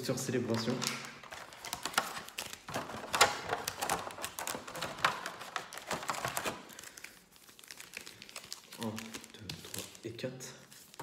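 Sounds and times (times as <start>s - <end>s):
packaging crinkling: 0.5s - 11.0s.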